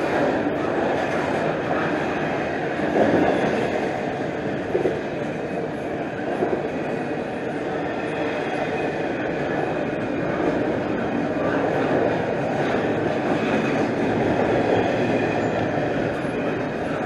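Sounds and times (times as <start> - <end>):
freight train cars rolling on rails: 0.0 - 17.0.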